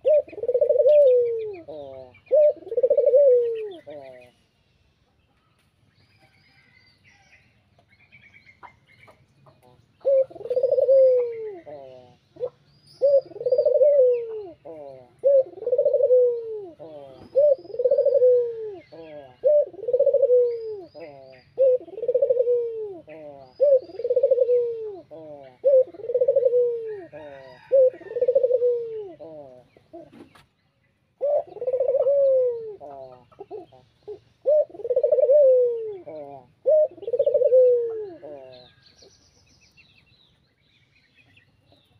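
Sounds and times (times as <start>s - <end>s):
dove cooing: 0.0s - 4.4s, 8.6s - 30.4s, 31.1s - 38.8s
small birds chirping: 0.0s - 41.9s.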